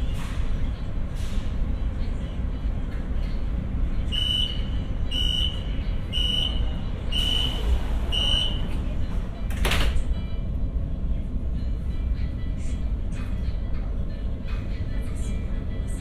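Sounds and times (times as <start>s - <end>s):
low rumble of train: 0.0s - 16.0s.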